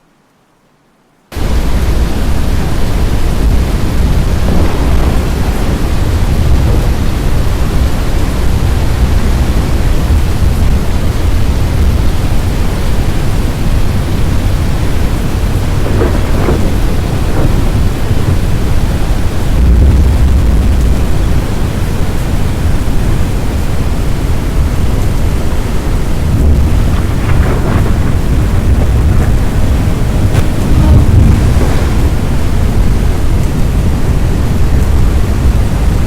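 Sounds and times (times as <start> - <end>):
rain: 0.0 - 36.0
storm wind buffeting microphone: 1.3 - 36.0.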